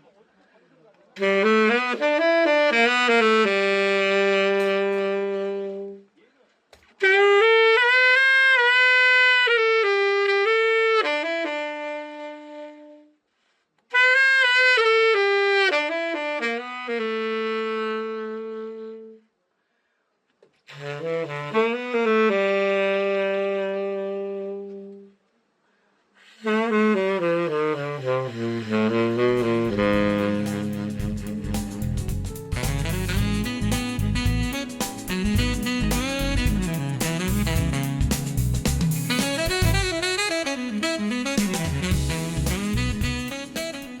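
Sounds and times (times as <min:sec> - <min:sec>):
tenor saxophone playing: 0:01.2 - 0:06.1, 0:07.0 - 0:13.2, 0:13.9 - 0:19.4, 0:20.6 - 0:25.2, 0:26.4 - 0:44.0.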